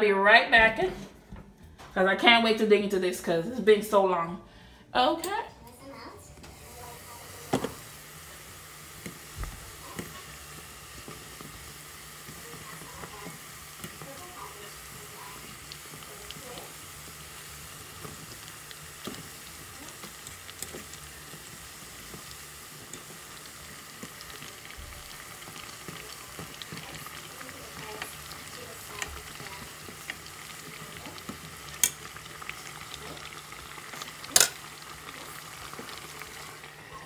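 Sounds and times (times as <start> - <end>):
dumplings sizzling in oil: 6.4 - 37.0.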